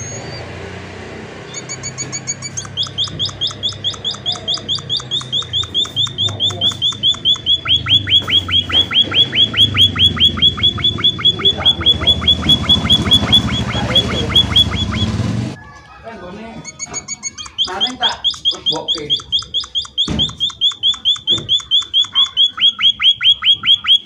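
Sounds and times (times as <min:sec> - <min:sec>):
finch chirping: 0:01.5 - 0:15.2, 0:16.7 - 0:24.0.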